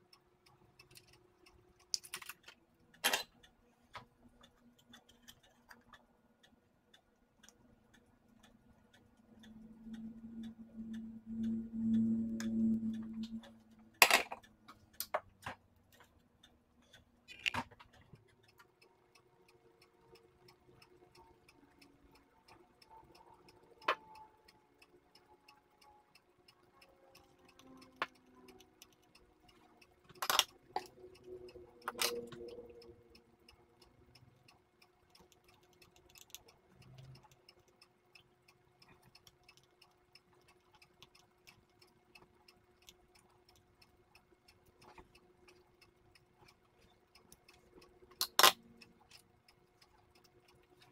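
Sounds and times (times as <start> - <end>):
faint steady ticking: 0.0 - 50.9.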